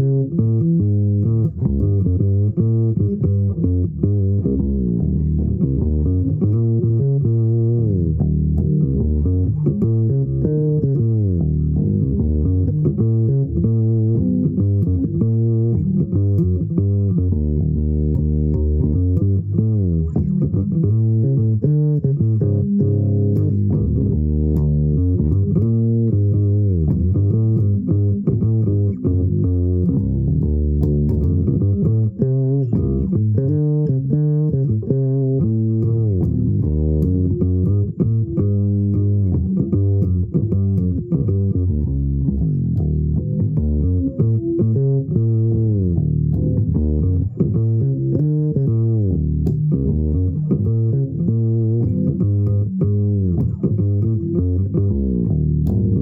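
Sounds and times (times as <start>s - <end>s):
solo bass guitar: 0.0s - 56.0s.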